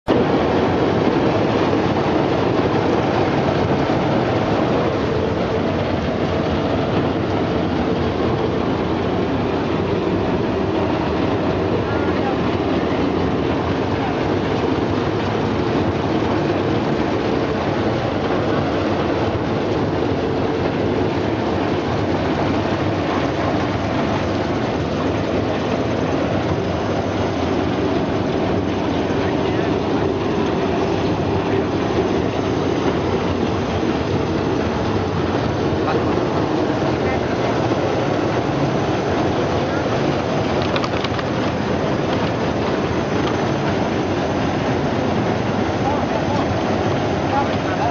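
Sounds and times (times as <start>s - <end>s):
machine running mechanically: 0.2s - 47.9s.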